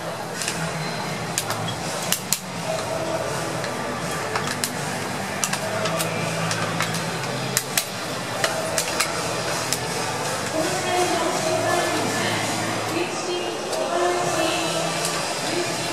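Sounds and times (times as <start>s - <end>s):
crowd murmur: 0.0s - 15.9s.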